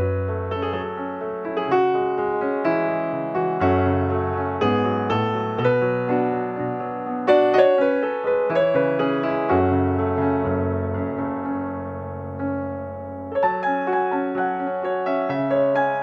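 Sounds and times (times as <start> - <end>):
slow solo piano music: 0.0 - 16.0.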